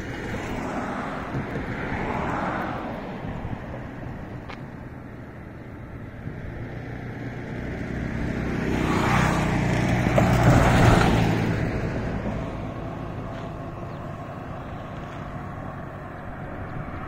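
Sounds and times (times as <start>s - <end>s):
steady road rumble: 0.0s - 17.0s
van passing by: 0.0s - 17.0s.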